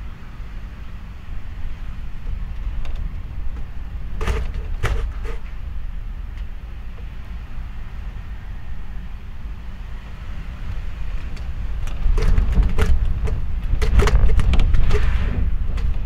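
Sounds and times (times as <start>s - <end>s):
gusting wind rumble: 0.0s - 16.0s.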